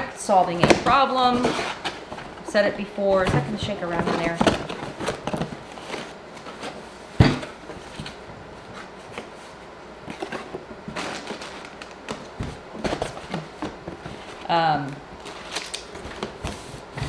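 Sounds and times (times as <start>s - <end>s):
cardboard box handled and folded: 0.3s - 17.0s.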